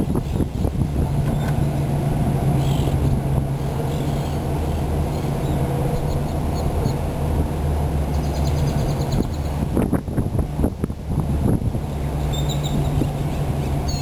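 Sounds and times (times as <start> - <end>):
car engine humming: 0.0 - 14.0
gusts of low rumble: 0.0 - 14.0.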